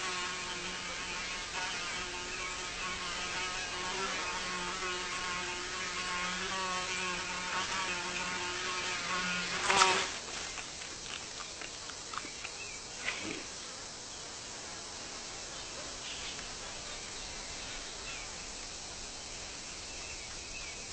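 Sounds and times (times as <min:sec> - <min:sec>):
fly buzzing: 0:00.0 - 0:19.6.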